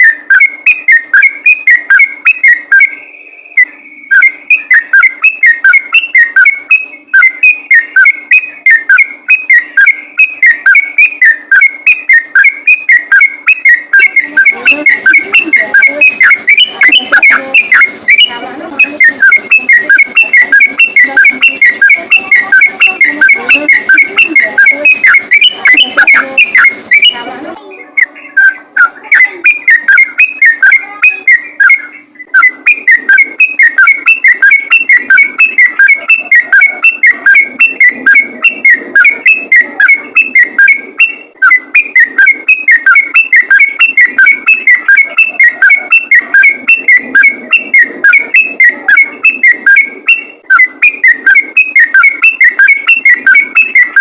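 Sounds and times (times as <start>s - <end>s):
bulbul song recording: 0.0s - 54.0s.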